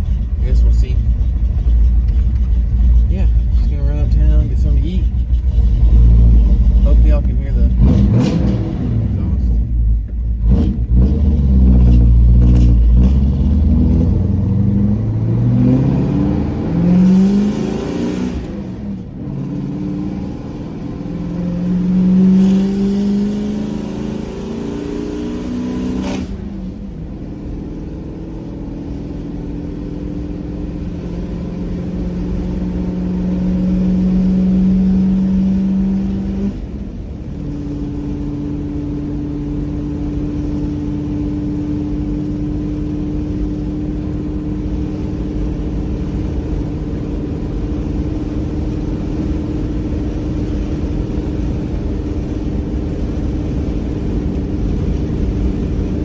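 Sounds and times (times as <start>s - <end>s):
truck engine shifting gears: 0.0s - 56.0s.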